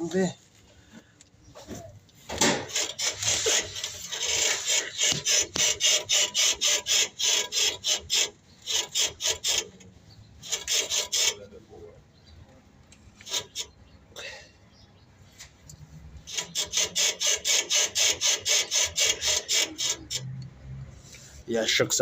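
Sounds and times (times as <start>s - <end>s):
shock absorbers squeaking: 0.9s - 11.6s, 12.2s - 14.0s, 15.3s - 21.8s.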